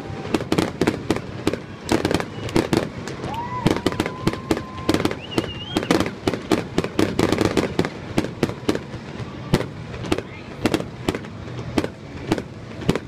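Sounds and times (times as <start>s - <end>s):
fireworks popping and crackling: 0.0s - 13.0s
loud firework reports: 0.0s - 13.0s.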